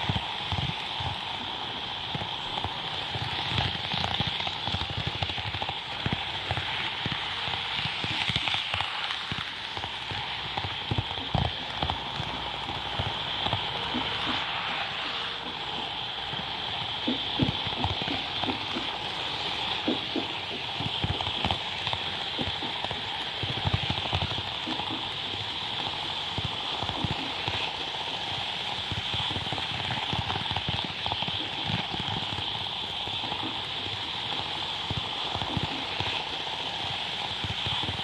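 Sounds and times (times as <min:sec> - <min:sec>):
model train clicks and clacks: 0:00.0 - 0:38.0
model train high hum: 0:00.0 - 0:38.0.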